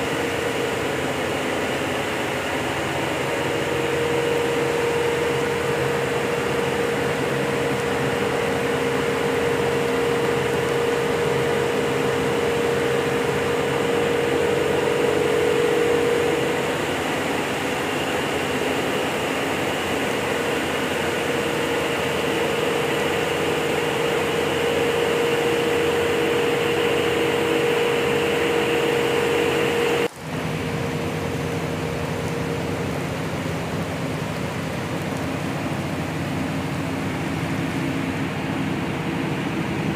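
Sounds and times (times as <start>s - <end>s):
machinery hum: 0.0s - 39.9s.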